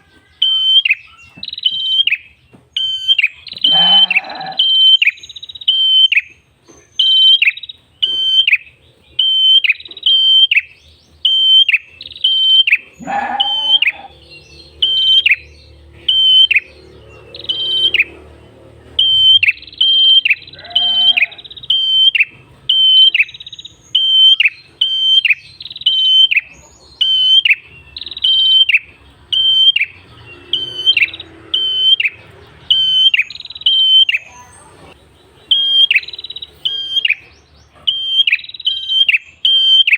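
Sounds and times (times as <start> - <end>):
bird singing sharp repeated notes: 0.3 - 39.9.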